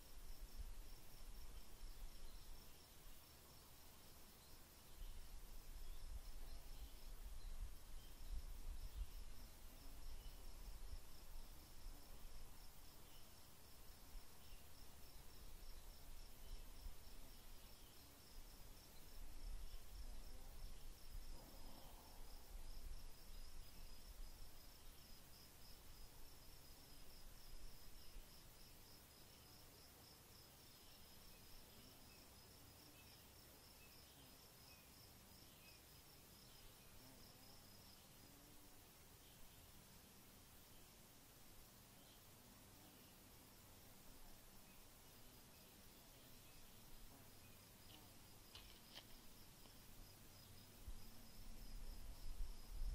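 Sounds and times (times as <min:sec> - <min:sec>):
insect chirping: 0:00.0 - 0:52.9
low background hiss: 0:00.0 - 0:52.9.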